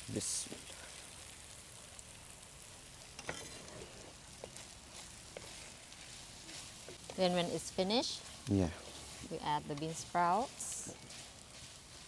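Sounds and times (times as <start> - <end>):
noodles sizzling in a pan: 0.0 - 12.0.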